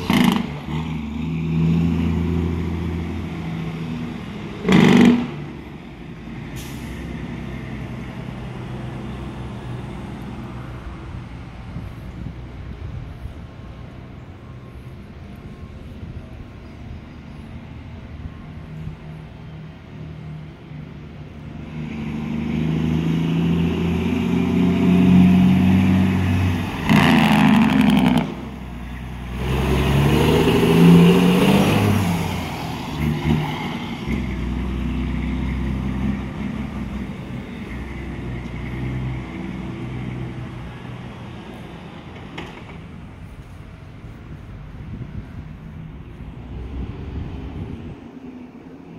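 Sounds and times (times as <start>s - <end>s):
truck engine accelerating: 0.0s - 48.9s.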